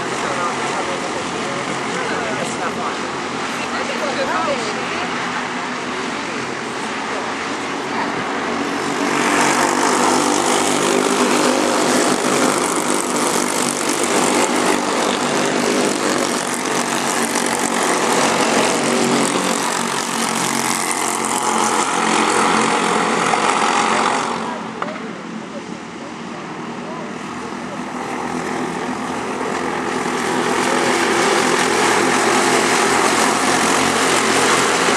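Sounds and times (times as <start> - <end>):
racing kart engine: 0.0 - 34.9.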